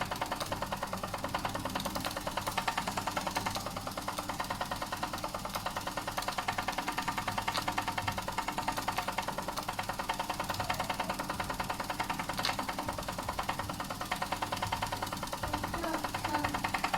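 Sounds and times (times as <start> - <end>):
model steam engine chuffing: 0.0 - 16.9.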